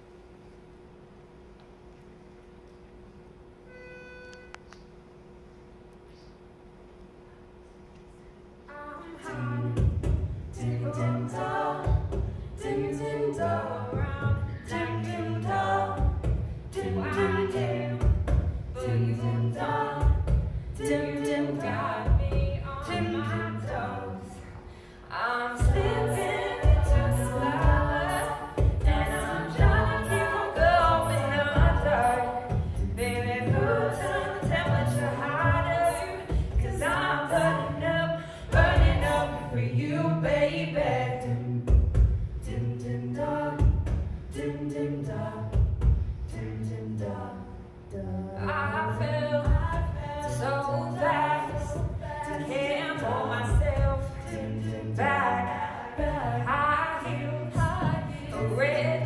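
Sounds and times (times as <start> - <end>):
women singing a cappella harmony: 8.7 - 59.0.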